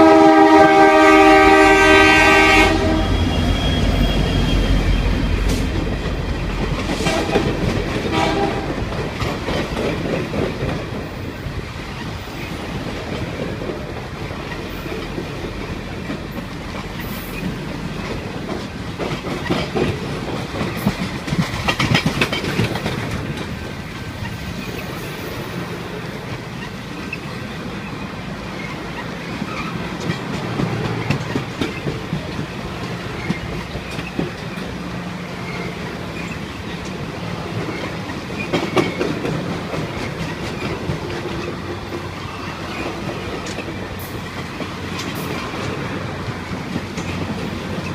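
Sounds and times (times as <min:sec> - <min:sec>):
train wheels clattering on rails: 0:00.0 - 0:47.9.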